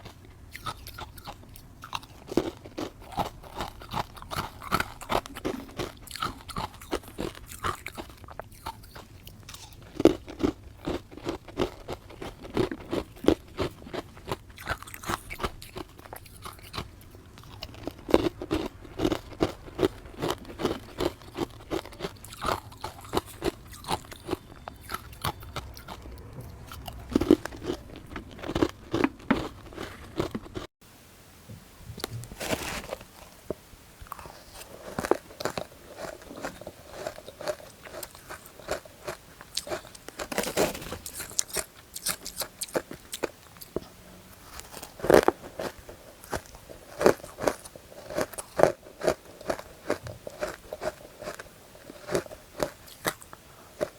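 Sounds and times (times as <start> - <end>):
crunching and chewing ice: 0.0 - 30.7, 32.0 - 33.4, 34.0 - 53.9.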